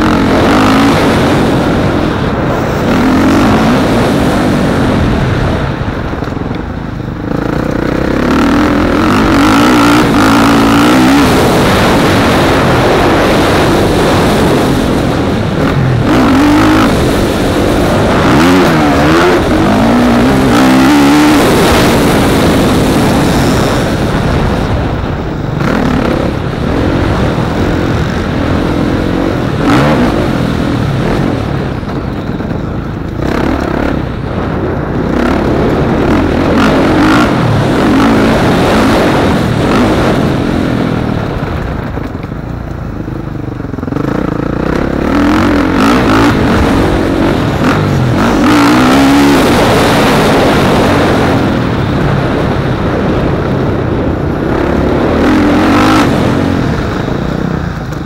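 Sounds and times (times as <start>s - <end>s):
motorcycle engine revving: 0.0s - 58.0s
wind rushing on camera: 0.0s - 58.0s.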